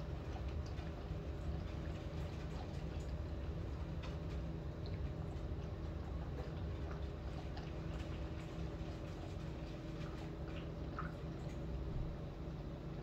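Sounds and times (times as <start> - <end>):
small drips and taps: 0.1 - 12.7.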